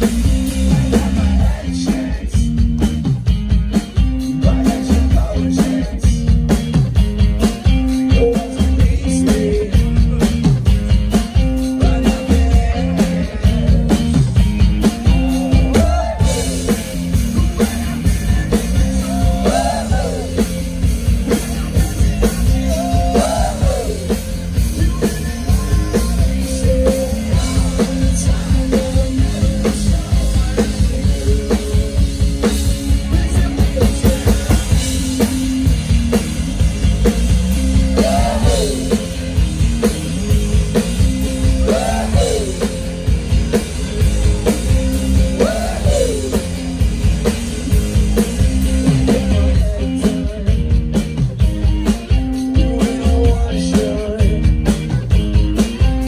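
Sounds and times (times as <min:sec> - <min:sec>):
bass guitar: 0:00.0 - 0:56.0
drum kit beat: 0:00.0 - 0:56.0
electric guitar: 0:00.0 - 0:56.0.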